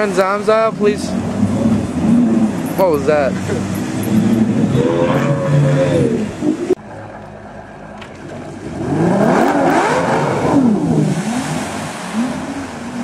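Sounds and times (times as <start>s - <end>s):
boat engine revving: 0.0s - 13.0s.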